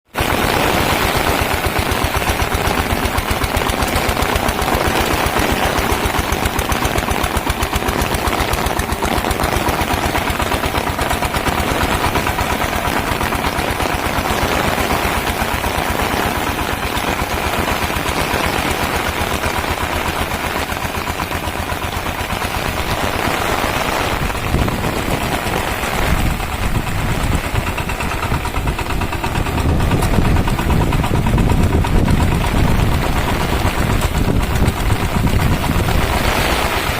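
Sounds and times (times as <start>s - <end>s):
diesel engine chugging: 0.2s - 36.9s.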